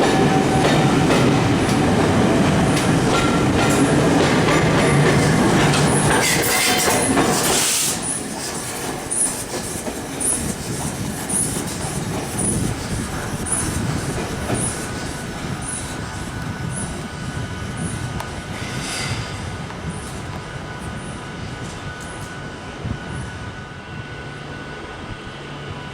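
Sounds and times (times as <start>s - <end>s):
train running on rails: 0.0s - 25.9s
train wheel squeal: 2.6s - 25.9s.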